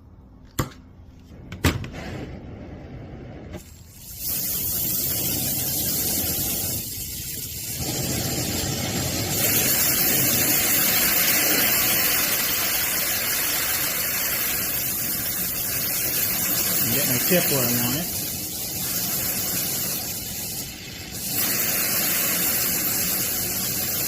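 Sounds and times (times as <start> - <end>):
brazing torch hissing: 1.9 - 24.0.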